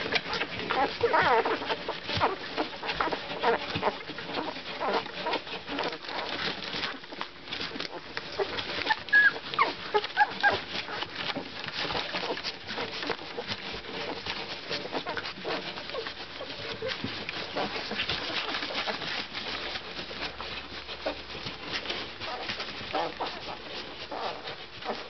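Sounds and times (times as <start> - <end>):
puppies suckling wet clicks: 0.0 - 25.0
puppy squeaks: 0.1 - 25.0.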